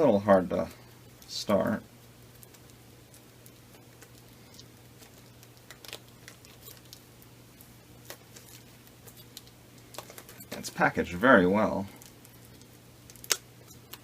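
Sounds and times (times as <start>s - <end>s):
plastic shrink-wrap crinkling: 1.1s - 14.0s.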